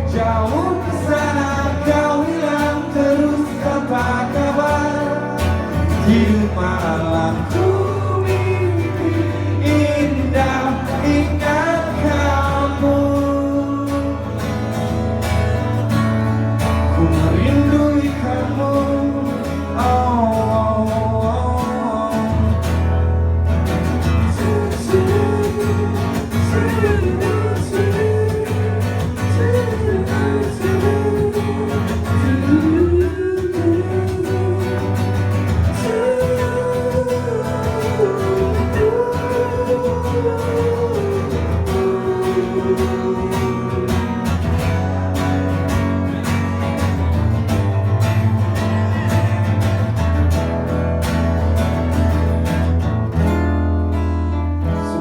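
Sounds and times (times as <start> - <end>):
steady bass: 0.0 - 55.0
strummed acoustic guitar: 0.0 - 55.0.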